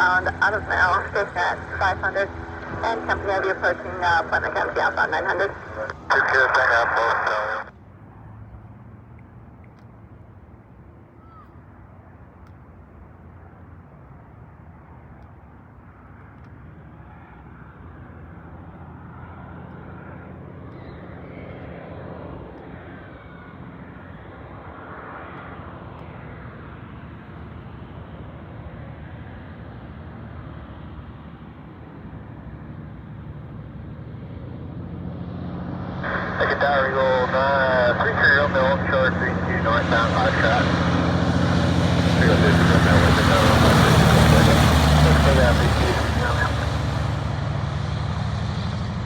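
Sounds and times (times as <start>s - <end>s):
propeller airplane engine: 0.0s - 49.0s.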